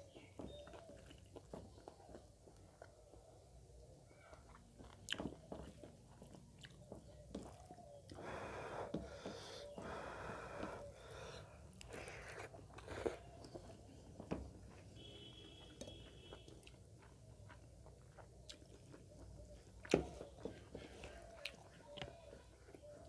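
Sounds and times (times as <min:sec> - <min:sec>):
wet chewing and smacking: 0:00.0 - 0:23.0.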